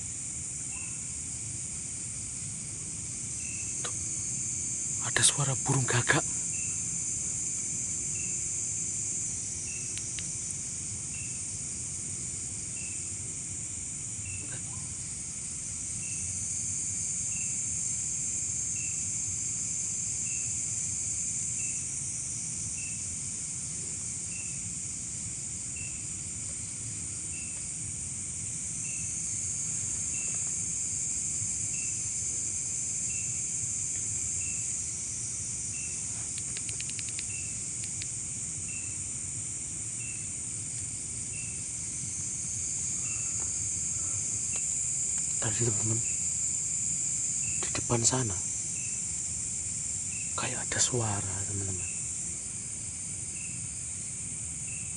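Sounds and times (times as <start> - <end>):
crickets shrilling: 0.0 - 54.9.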